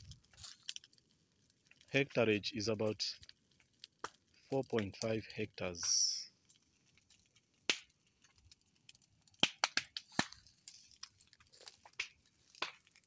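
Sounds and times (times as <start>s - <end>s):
dry bamboo and leaves crackling: 0.0s - 13.0s.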